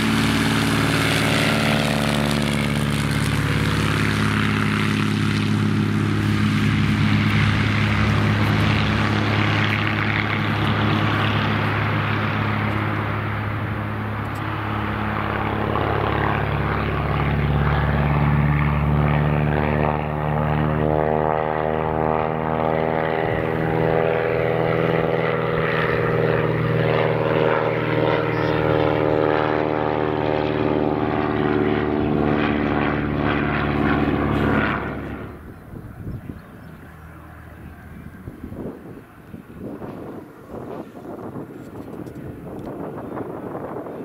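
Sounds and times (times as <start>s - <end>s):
propeller plane engine drone: 0.0s - 44.0s.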